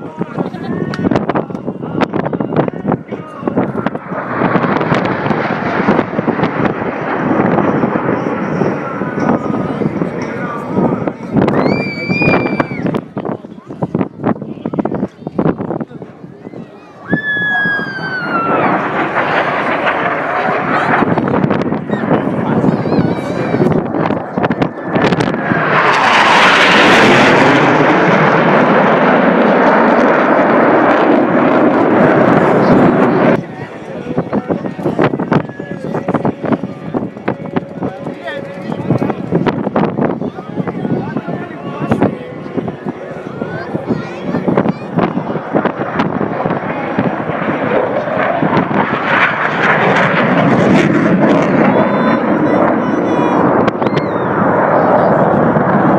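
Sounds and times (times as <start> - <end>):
jet aircraft flying past: 0.0 - 55.9.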